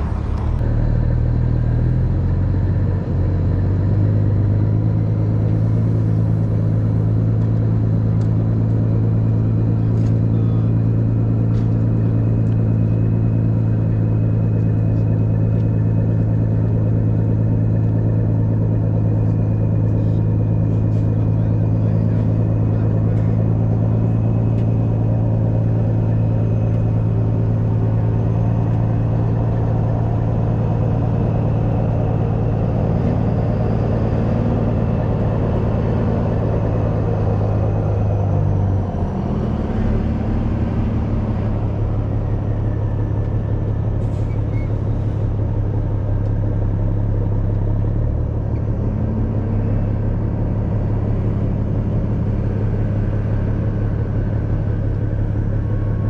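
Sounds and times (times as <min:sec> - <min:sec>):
truck diesel engine running: 0:00.0 - 0:56.0.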